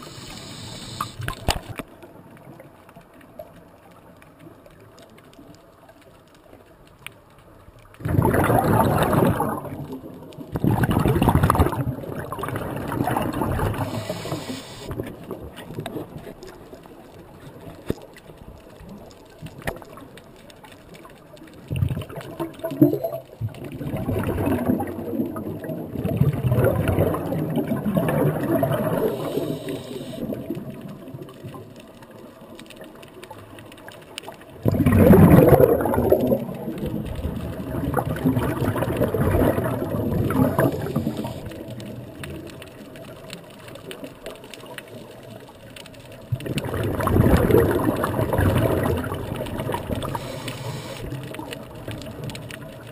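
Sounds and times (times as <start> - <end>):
scuba regulator bubbles gurgling: 0.0 - 4.1, 7.9 - 52.9.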